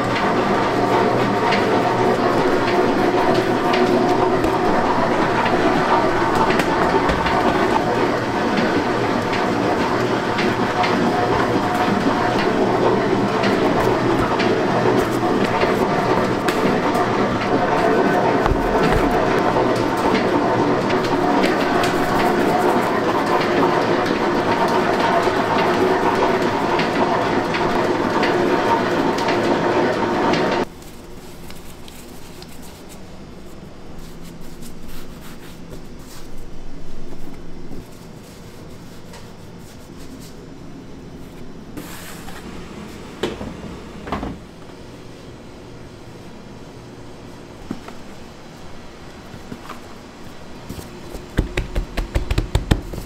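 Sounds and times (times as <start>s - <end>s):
bakery machine rattling hum: 0.0s - 53.0s.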